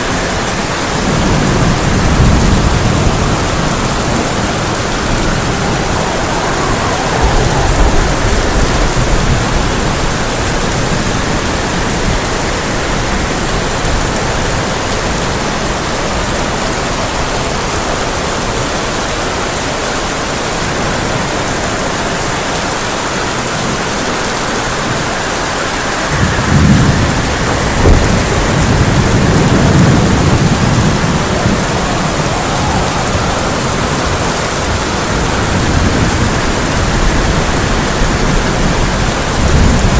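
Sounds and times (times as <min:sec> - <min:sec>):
thunder rumbling and cracking: 0:00.0 - 0:19.5, 0:23.2 - 0:39.9
heavy rain on a tin roof: 0:00.0 - 0:39.9.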